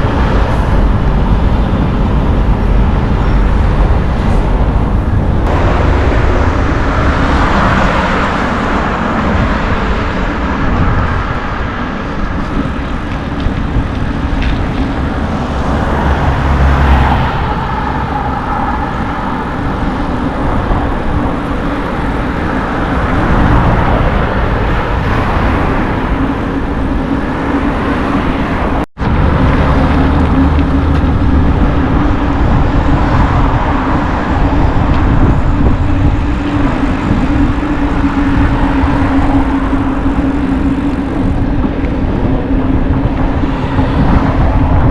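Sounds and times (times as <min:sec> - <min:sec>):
bicycle tyre rumble: 0:00.0 - 0:44.9
wind buffeting microphone: 0:00.0 - 0:44.9.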